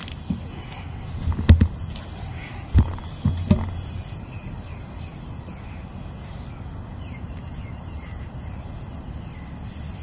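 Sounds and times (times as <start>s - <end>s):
birds calling: 0.0s - 10.0s.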